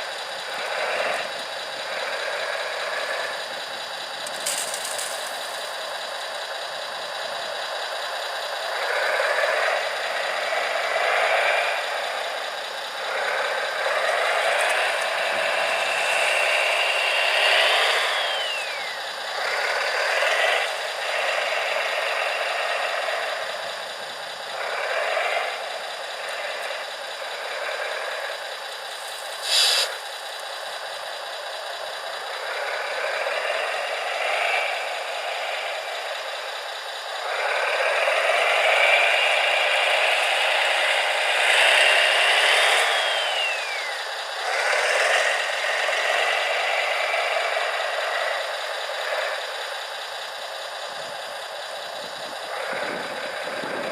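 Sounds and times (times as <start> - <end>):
electric motors whining: 0.2 - 53.9.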